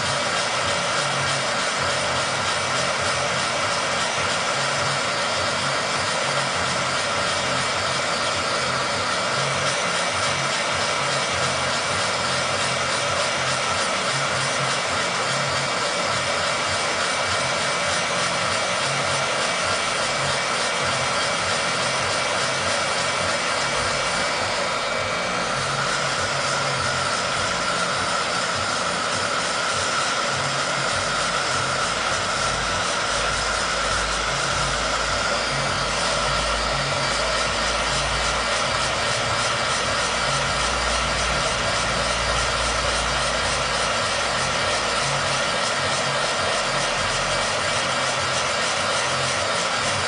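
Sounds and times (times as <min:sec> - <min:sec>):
heat gun fan whining: 0:00.0 - 0:50.0.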